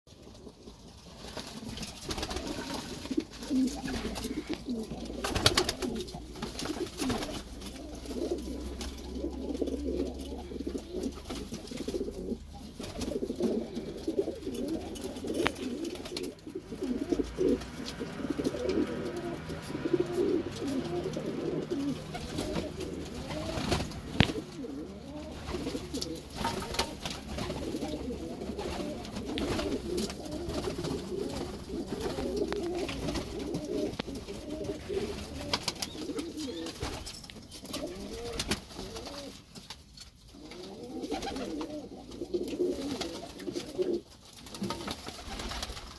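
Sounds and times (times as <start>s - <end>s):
pigeons cooing: 0.1s - 39.6s, 40.2s - 45.8s.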